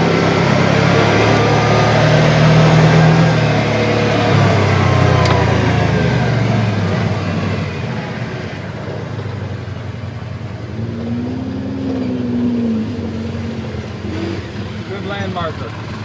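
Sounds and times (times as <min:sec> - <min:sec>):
atv engines running: 0:00.0 - 0:16.0.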